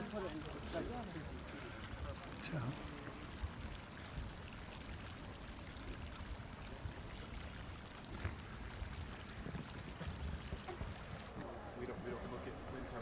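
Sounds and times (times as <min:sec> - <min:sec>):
geyser splashing and hissing: 0:00.0 - 0:13.0.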